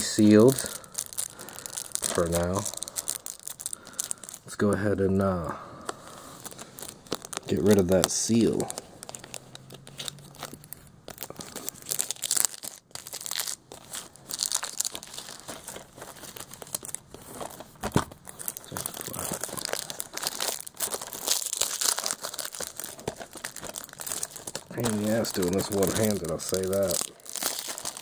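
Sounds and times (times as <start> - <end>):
plastic wrap tearing: 0.0 - 4.6, 6.1 - 28.0
plastic wrap crinkling: 0.0 - 28.0.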